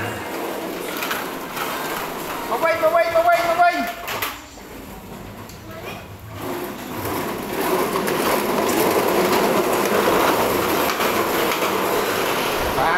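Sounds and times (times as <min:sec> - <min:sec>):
plastic wheels rolling on tiles: 0:00.0 - 0:12.9.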